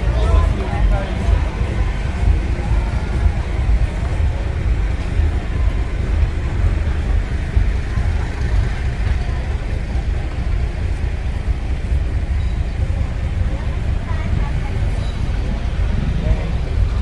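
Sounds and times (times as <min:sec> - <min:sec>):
passing traffic rumble: 0:00.0 - 0:17.0
street noise: 0:00.0 - 0:17.0.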